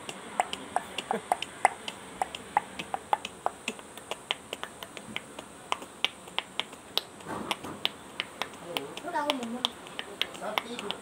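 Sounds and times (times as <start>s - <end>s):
mouth pops: 0.0s - 11.0s.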